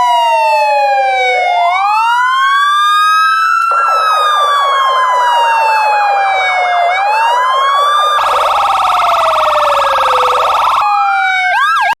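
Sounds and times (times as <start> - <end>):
wailing siren: 0.0 - 12.0
yelping siren: 0.0 - 12.0.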